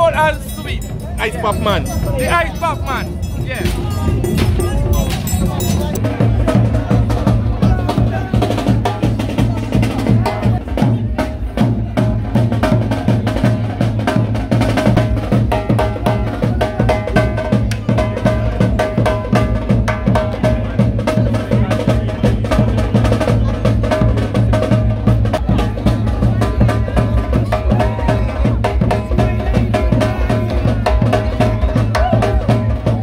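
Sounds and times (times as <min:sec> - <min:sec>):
bass drum beat: 0:00.0 - 0:33.0.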